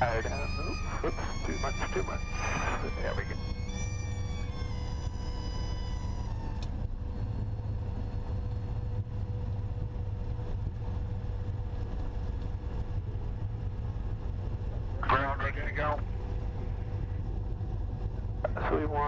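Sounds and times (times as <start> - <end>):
aircraft engine low drone: 0.0 - 19.0
faint high whine: 0.0 - 19.0.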